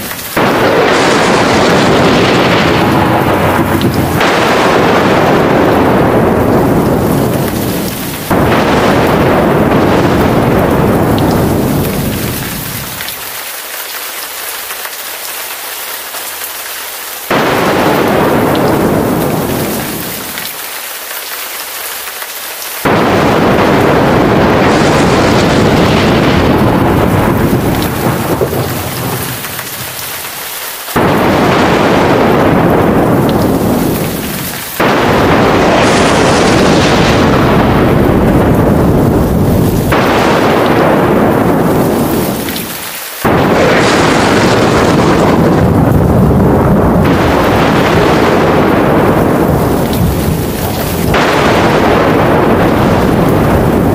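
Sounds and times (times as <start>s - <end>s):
loud thunder peals: 0.0s - 13.4s, 17.3s - 20.6s, 22.8s - 53.9s
heavy rain: 0.0s - 53.9s.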